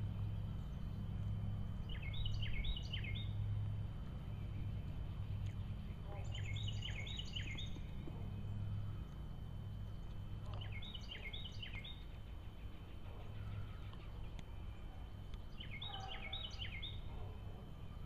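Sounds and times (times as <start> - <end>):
songbird singing: 0.0 - 18.0
steady low hum: 0.0 - 18.0.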